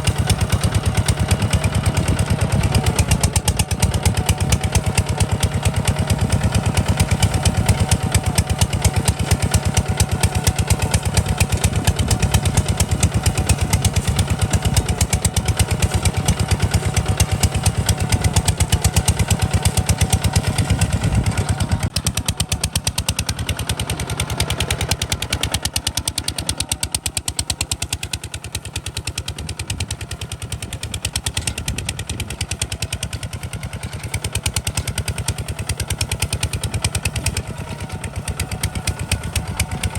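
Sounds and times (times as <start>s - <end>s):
diesel tractor engine chugging: 0.0s - 39.9s.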